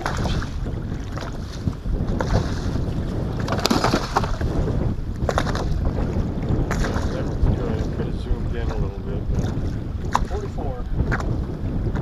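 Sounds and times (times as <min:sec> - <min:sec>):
rush of water: 0:00.0 - 0:12.0
waves washing against hull: 0:00.0 - 0:12.0
wind buffeting microphone: 0:00.0 - 0:12.0.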